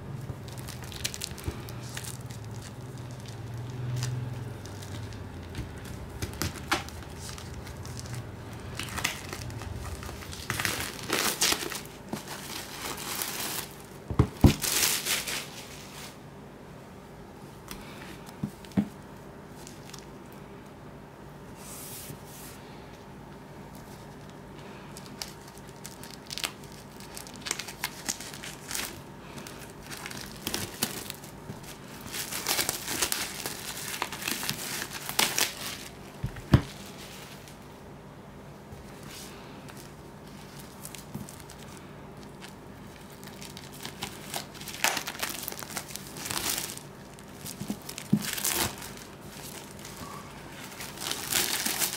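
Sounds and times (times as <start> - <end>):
plastic shrink wrap crinkling: 0.0 - 16.2, 18.3 - 20.2, 23.7 - 37.7, 38.9 - 51.9.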